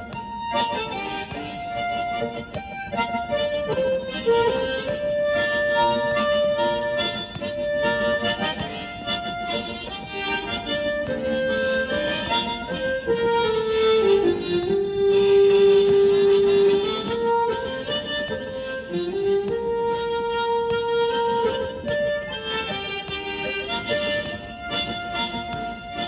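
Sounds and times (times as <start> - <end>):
harmonica melody with chords: 0.0 - 26.0.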